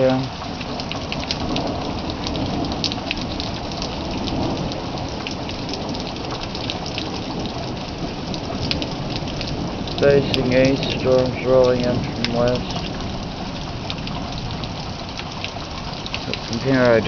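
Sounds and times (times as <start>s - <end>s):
raindrop ticks: 0.0s - 17.0s
steady rain: 0.0s - 17.0s.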